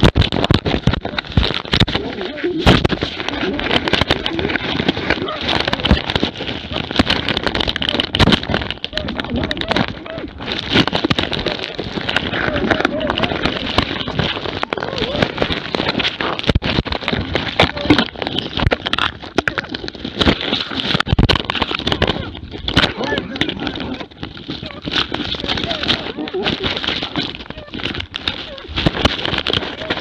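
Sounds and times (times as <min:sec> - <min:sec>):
knocks and rustles against camera: 0:00.0 - 0:30.0
wavering voice-like sounds: 0:00.0 - 0:30.0.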